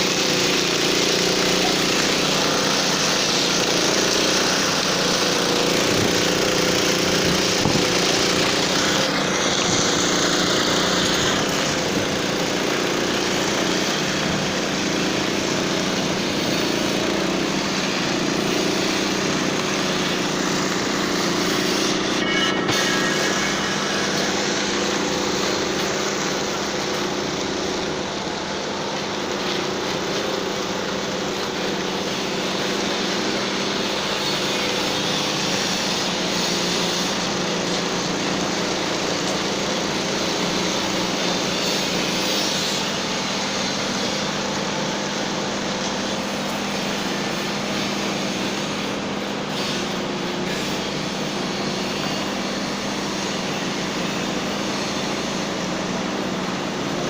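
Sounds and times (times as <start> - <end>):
power trowel engine droning: 0.0 - 57.0.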